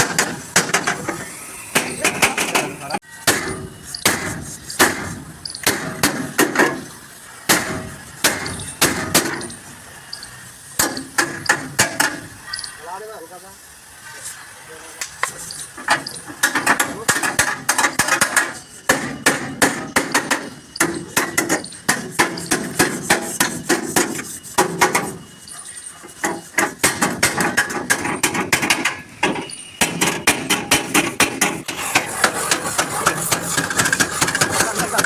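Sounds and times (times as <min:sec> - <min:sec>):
hammer striking sheet metal: 0:00.0 - 0:06.9, 0:07.5 - 0:09.5, 0:10.8 - 0:12.3, 0:15.9 - 0:25.2, 0:26.2 - 0:35.0.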